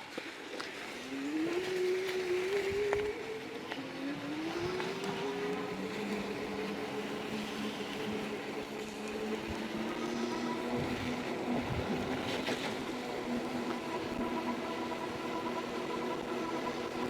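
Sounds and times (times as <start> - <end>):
electric bike motor whining: 0.4 - 17.0.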